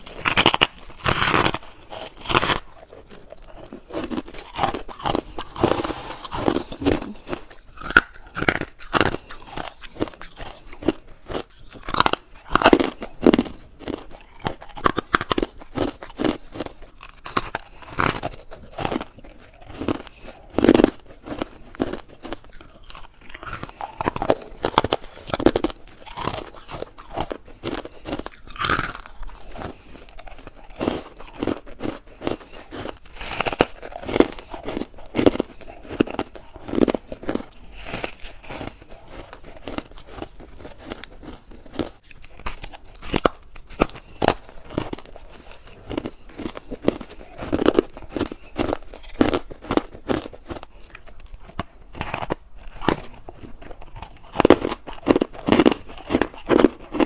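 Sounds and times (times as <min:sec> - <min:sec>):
biting and chewing frost: 0:00.0 - 0:57.0.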